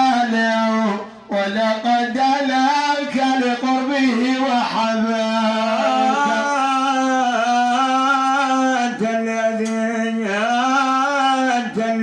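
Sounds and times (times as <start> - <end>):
man singing devotional chant: 0.0 - 12.0.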